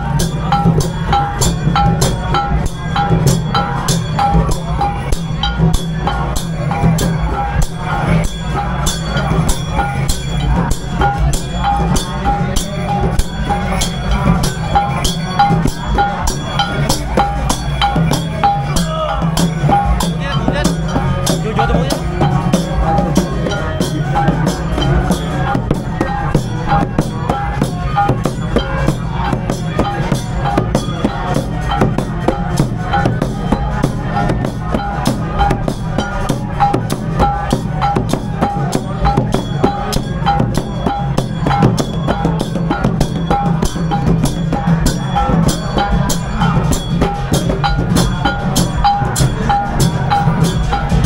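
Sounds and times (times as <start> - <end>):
music with fast drumbeat: 0.0 - 51.0.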